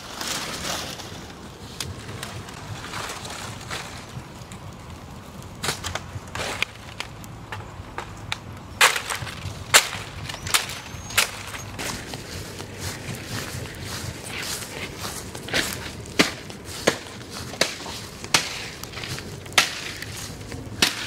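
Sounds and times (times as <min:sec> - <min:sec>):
dry twigs cracking in fire: 0:00.0 - 0:21.0.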